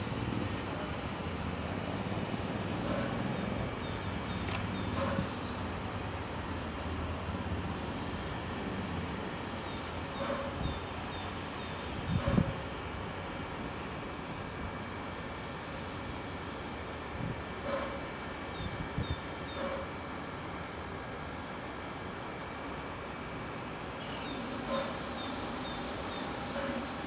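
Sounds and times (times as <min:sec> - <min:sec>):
distant steam locomotive rumble: 0:00.0 - 0:27.0.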